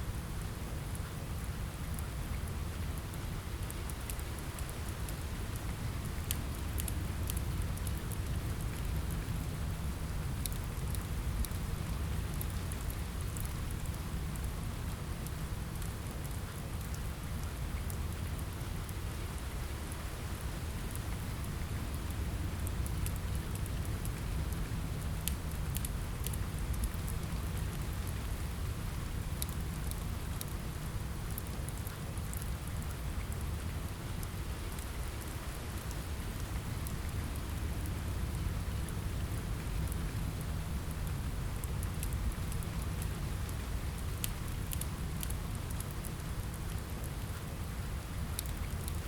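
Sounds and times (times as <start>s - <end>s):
steady rain: 0.0s - 49.0s
crackling wood fire: 0.1s - 49.0s.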